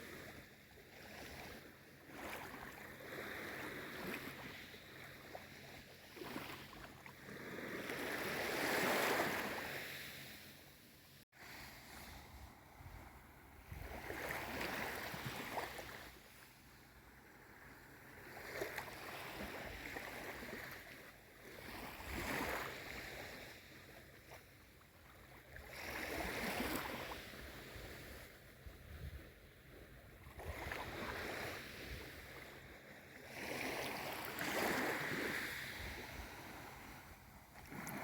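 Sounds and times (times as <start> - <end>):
small waves washing in: 0.0 - 38.0.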